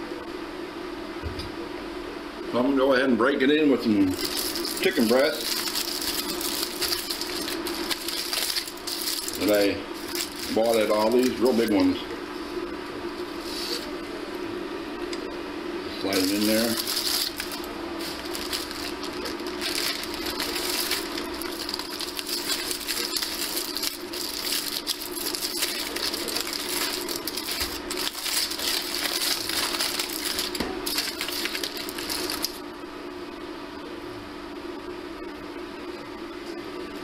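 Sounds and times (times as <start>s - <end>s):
cooktop hum: 3.6s - 37.0s.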